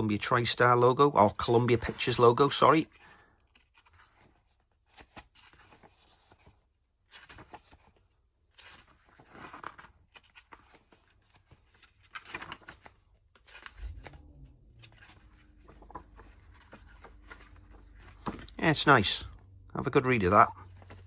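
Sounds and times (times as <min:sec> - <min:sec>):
paper pages rustling: 0:00.0 - 0:21.0.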